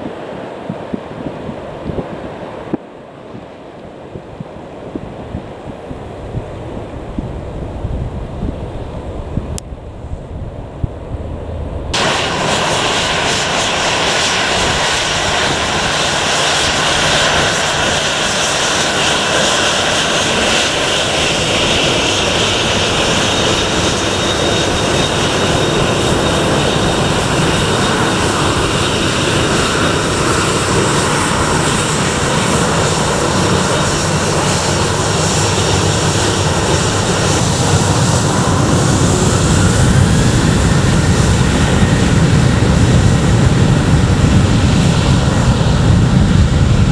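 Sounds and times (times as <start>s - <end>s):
jet engines at takeoff: 0.0s - 46.9s.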